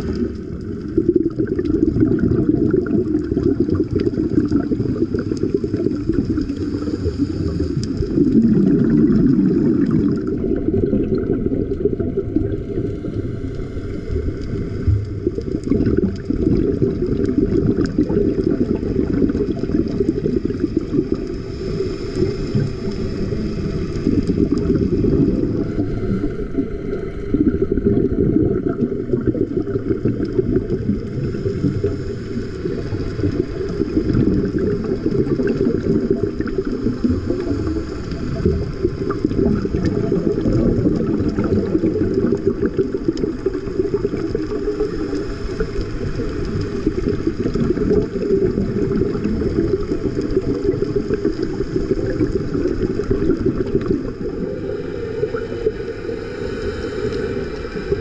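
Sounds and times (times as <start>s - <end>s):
muffled churning water: 0.0s - 58.0s
faint steady whine: 2.0s - 58.0s.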